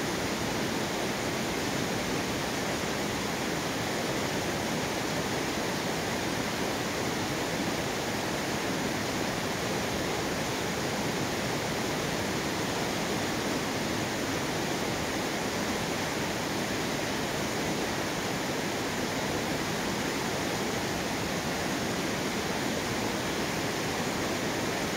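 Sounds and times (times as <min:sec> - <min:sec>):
river rushing over rocks: 0:00.0 - 0:24.9.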